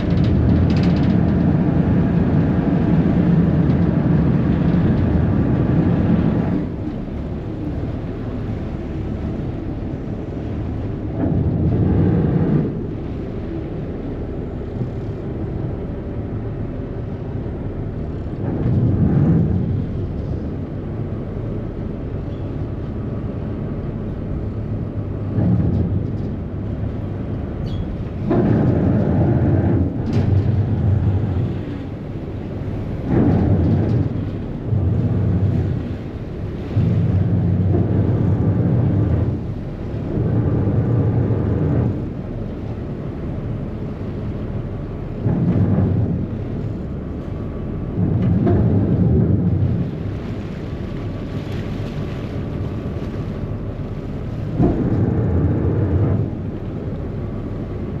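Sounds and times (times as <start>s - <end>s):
churning wake: 0.0s - 58.0s
ferry engines rumbling: 0.0s - 58.0s
wind buffeting the microphone: 0.0s - 58.0s.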